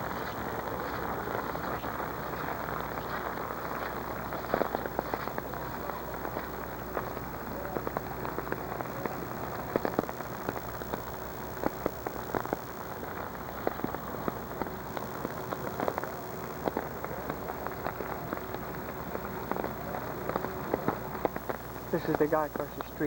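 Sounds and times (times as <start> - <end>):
raindrops hitting surfaces: 0.0 - 23.0
steady rain falling: 0.0 - 23.0.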